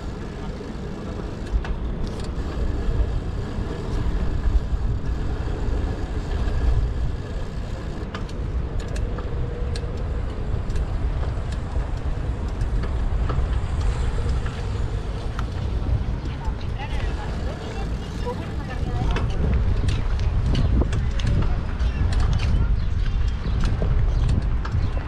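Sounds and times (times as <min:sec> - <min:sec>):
passing road traffic: 0:00.0 - 0:25.0
wind rumble on microphone: 0:00.0 - 0:25.0.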